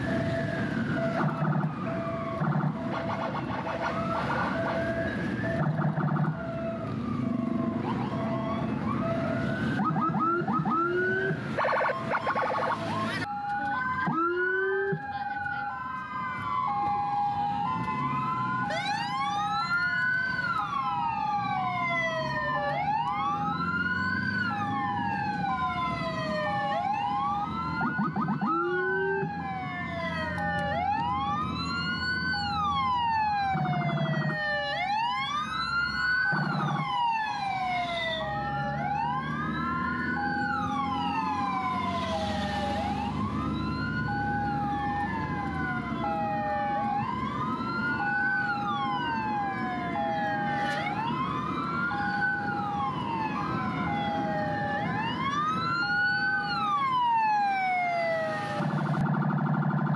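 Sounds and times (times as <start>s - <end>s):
two-tone hi-lo siren: 0.0s - 59.9s
wailing siren: 0.0s - 59.9s.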